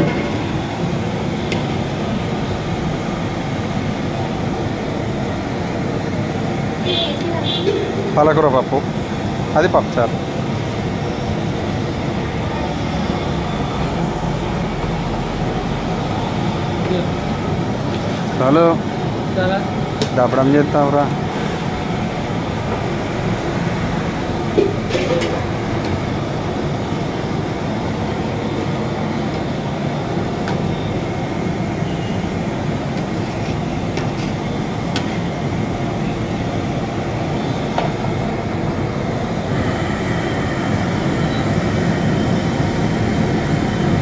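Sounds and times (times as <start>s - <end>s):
steady rumbling noise: 0.0s - 30.4s, 32.4s - 44.0s.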